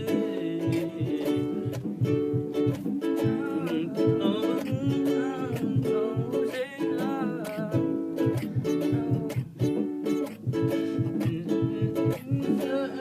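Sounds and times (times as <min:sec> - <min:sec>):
person singing wordlessly: 0:00.0 - 0:13.0
strummed acoustic string instrument: 0:00.0 - 0:13.0.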